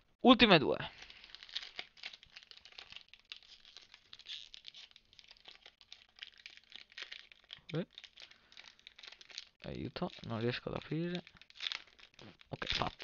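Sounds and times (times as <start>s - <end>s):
foil wrapper crinkling: 0.9s - 13.0s.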